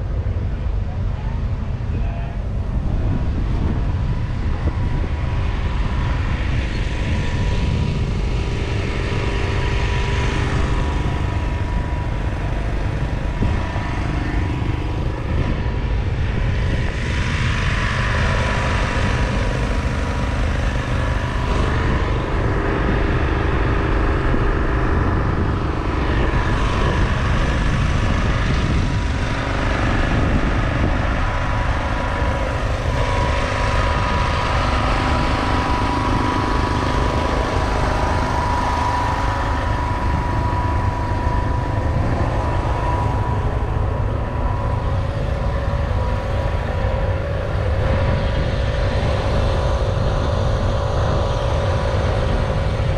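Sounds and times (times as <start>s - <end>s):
engines droning: 0.0s - 52.9s.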